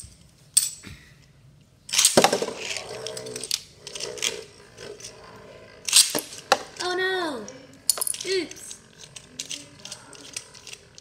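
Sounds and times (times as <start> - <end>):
spinning tops whirring: 1.9 - 11.0.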